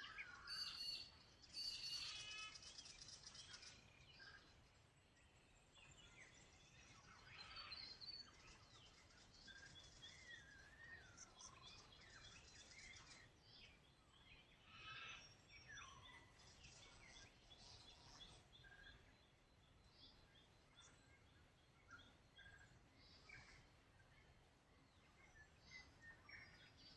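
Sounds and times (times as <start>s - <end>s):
birds chirping and whistling: 0.0s - 4.6s, 5.8s - 23.8s.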